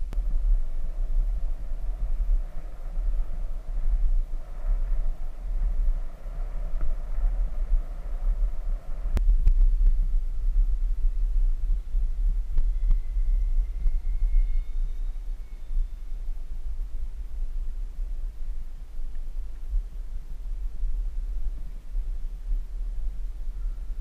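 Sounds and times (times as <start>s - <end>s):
wheels rolling on asphalt: 0.0s - 24.0s
wind buffeting microphone: 0.0s - 24.0s.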